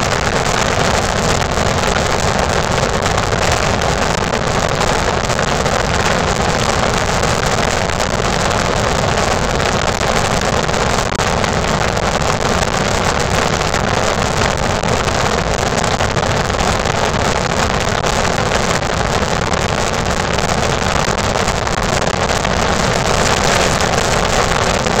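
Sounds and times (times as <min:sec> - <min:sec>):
rushing wind: 0:00.0 - 0:25.0.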